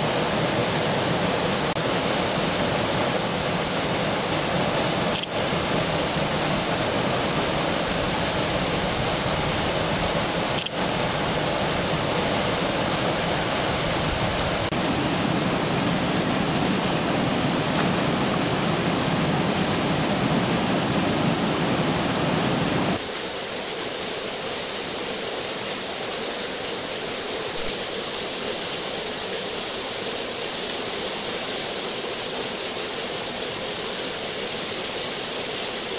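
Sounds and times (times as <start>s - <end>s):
river pouring over a weir: 0.0s - 35.9s.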